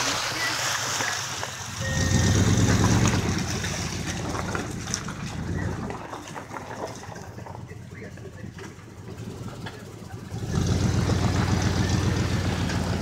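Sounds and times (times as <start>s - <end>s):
pickup truck engine rumbling: 0.0s - 13.0s.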